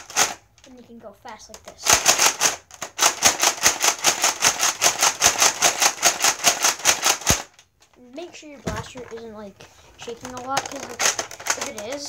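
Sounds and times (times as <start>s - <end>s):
toy blaster plastic clacks: 0.0s - 12.0s.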